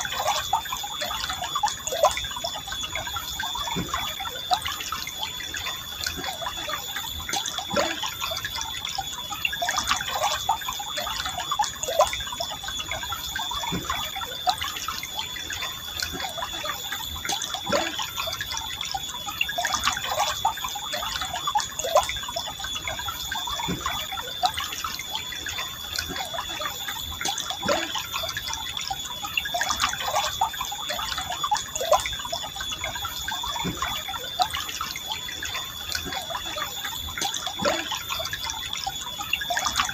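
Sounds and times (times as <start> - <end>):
river water trickling and gurgling: 0.0 - 39.9
steady high-pitched tone: 0.0 - 39.9
water drips and plops: 0.0 - 39.9.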